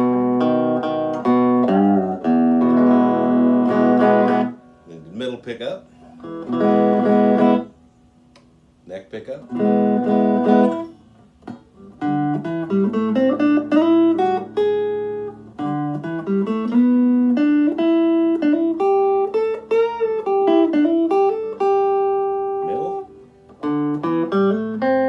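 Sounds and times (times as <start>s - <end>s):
electric guitar bending notes: 0.0s - 8.6s, 9.4s - 25.0s.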